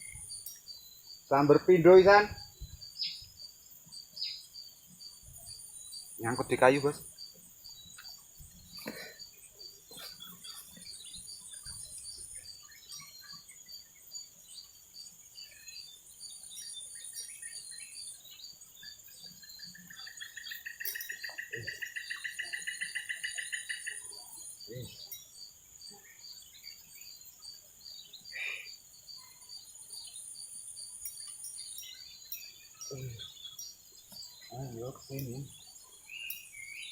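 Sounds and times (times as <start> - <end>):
insect buzzes: 0.0 - 36.9
insect drone with chirps: 0.0 - 36.9
pulsing insect trill: 0.0 - 36.9.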